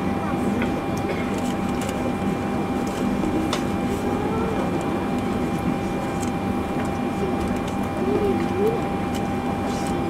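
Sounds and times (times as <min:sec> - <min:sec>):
aircraft cabin rumble and hiss: 0:00.0 - 0:10.0.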